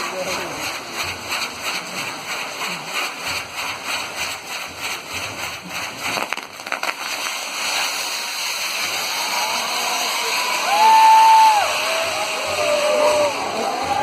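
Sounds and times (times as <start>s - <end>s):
fireworks hissing sparks: 0.0s - 14.0s
sharp firework cracks: 0.0s - 14.0s.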